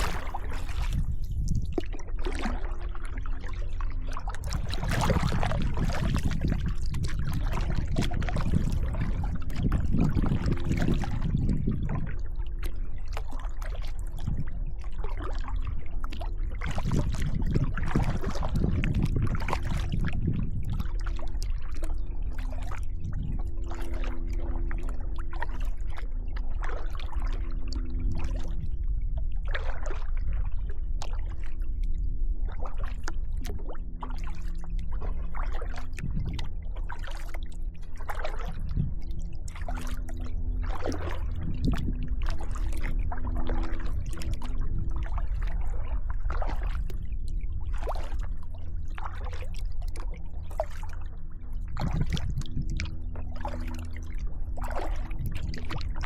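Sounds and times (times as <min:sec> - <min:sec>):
kayak paddle splashing water: 0:00.0 - 0:31.7, 0:32.4 - 0:56.0
steady low rumble: 0:00.0 - 0:56.0.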